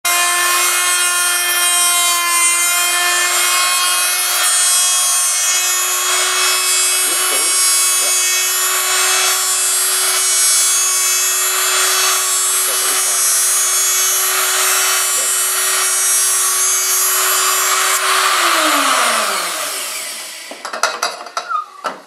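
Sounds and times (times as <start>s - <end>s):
rotary tool whine: 0.1s - 22.0s
wood being milled hiss: 0.2s - 20.7s.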